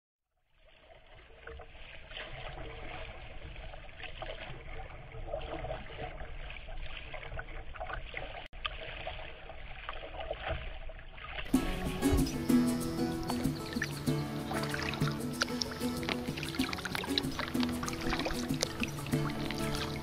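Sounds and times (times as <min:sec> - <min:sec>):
muffled water splashing: 0:00.5 - 0:20.0.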